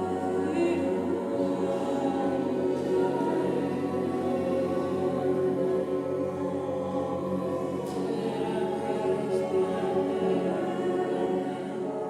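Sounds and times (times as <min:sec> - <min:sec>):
group singing held tones: 0:00.0 - 0:12.0.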